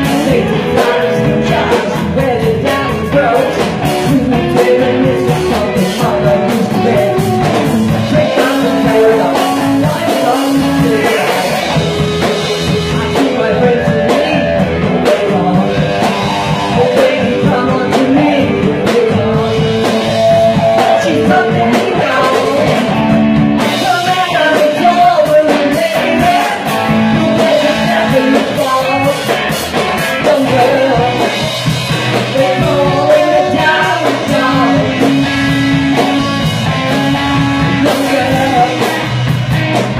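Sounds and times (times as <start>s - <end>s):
man singing into microphone: 0.0s - 11.8s, 12.8s - 23.0s, 23.6s - 31.5s, 32.1s - 39.2s
drum kit: 0.0s - 39.9s
electric guitars: 0.0s - 39.9s.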